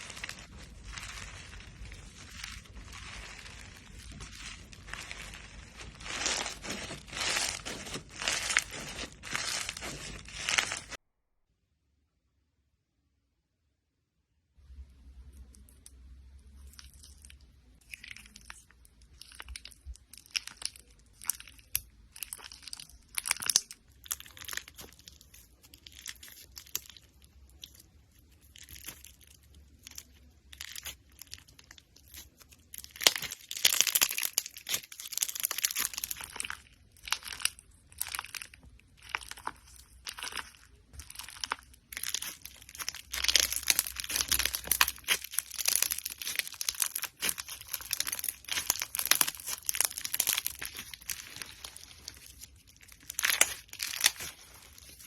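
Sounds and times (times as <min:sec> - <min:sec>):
slime squishing and popping: 0:00.0 - 0:11.0, 0:16.7 - 0:55.0.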